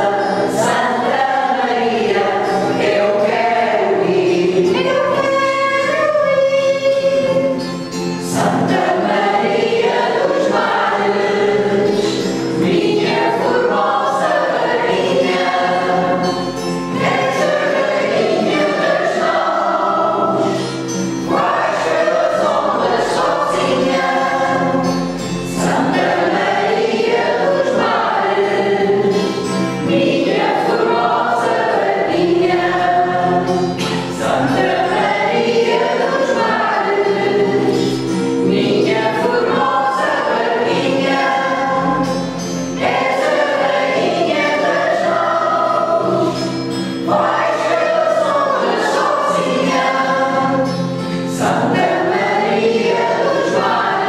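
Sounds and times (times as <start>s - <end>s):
mixed choir singing: 0.0s - 54.0s
strummed acoustic guitar: 0.0s - 54.0s.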